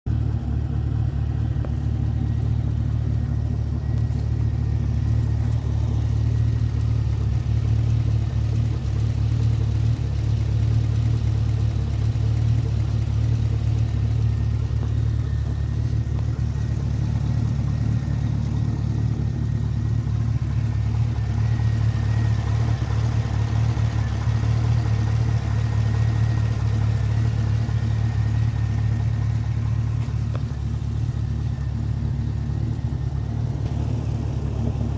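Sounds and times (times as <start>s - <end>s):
car engine idling: 0.0s - 34.9s
engine lifter tick: 0.1s - 34.9s.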